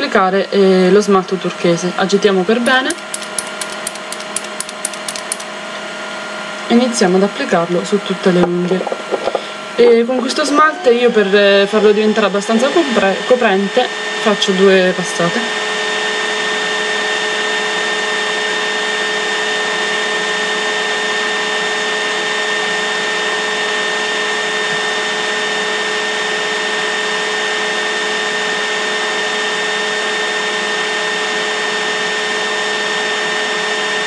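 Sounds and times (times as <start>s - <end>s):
constant motor hum: 0.0s - 34.0s.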